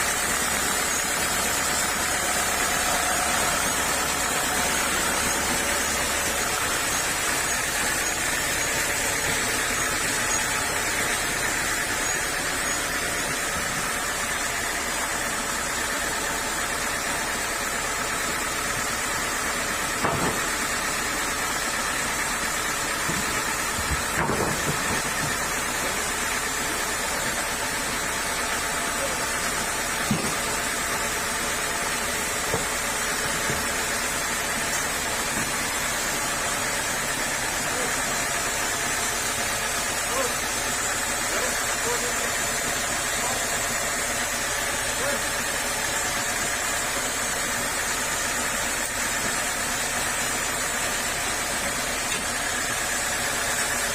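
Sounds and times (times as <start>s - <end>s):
sawmill saw humming: 0.0s - 53.9s.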